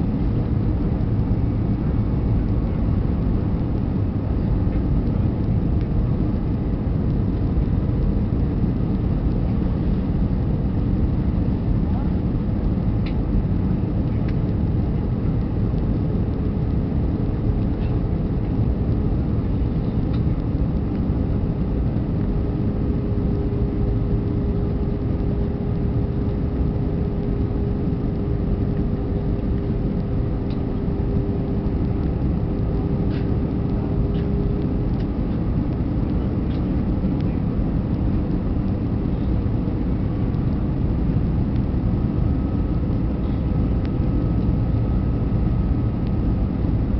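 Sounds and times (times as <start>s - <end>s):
airplane cabin rumble: 0.0s - 46.9s
steady hum: 0.0s - 46.9s.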